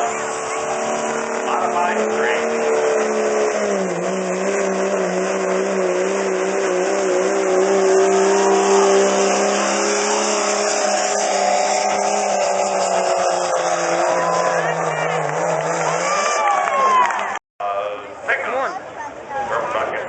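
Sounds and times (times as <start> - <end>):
diesel truck engine at full throttle: 0.0 - 20.0.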